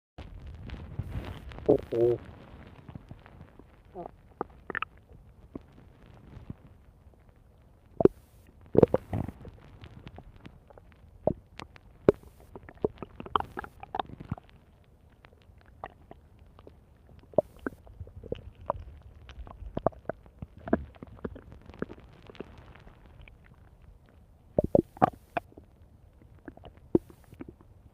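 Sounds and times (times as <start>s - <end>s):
stomach growling: 0.2s - 27.9s.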